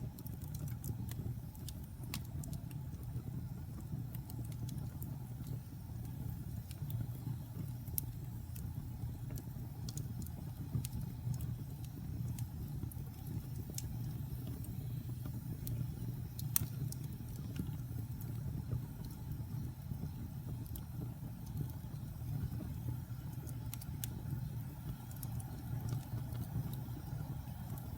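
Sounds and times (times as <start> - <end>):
fire crackling and popping: 0.0 - 27.9
fire rumbling: 0.0 - 27.9.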